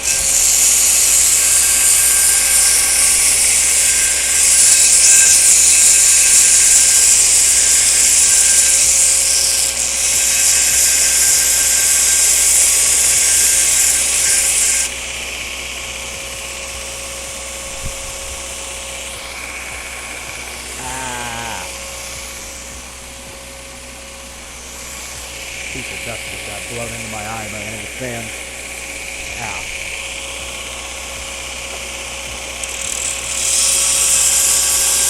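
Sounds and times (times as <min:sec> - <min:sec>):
belt grinder grinding steel: 0:00.0 - 0:35.0
faint machine hum: 0:00.0 - 0:35.0.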